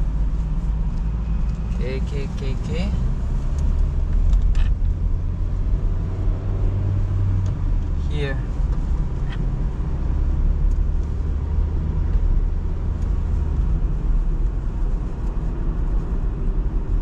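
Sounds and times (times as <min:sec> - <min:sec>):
engine and road noise inside car: 0:00.0 - 0:17.0.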